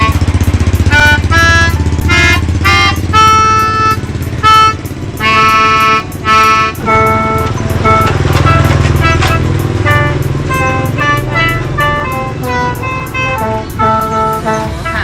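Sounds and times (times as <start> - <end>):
low throbbing hum: 0.0 - 15.0
reedy pipe tones: 0.0 - 15.0.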